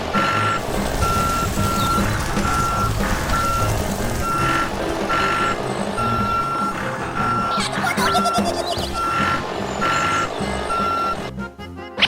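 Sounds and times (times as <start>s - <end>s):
reversing alarm beeping: 0.2s - 11.4s.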